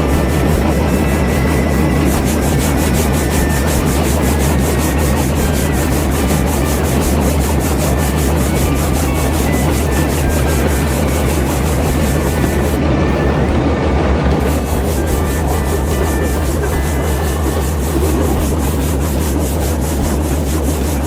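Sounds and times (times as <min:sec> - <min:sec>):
small machine humming and rasping: 0:00.0 - 0:21.0.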